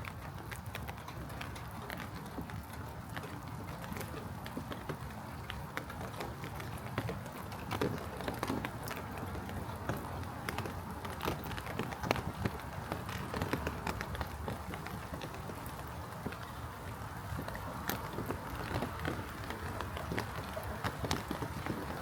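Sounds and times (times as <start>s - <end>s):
irregular ticks and taps: 0.0s - 22.0s
footsteps on pavement: 3.8s - 22.0s.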